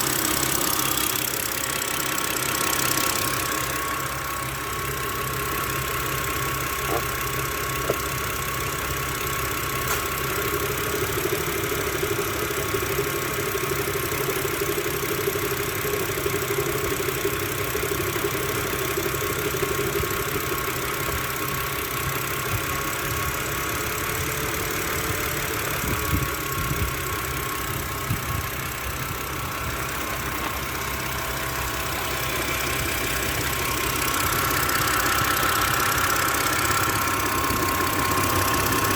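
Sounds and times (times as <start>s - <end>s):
car engine idling: 0.0s - 38.9s
engine ticking: 0.0s - 38.9s.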